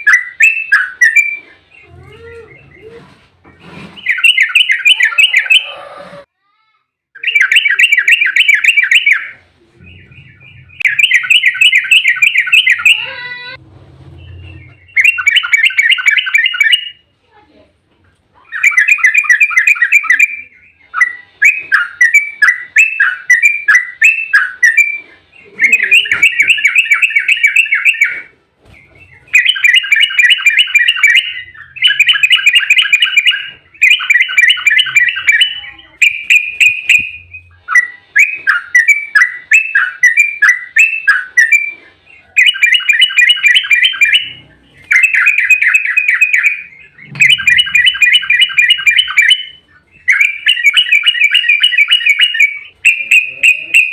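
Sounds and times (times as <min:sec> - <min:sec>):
bird chattering song: 0:00.0 - 0:03.1, 0:03.9 - 0:05.9, 0:07.2 - 0:13.5, 0:14.2 - 0:17.0, 0:18.4 - 0:53.9.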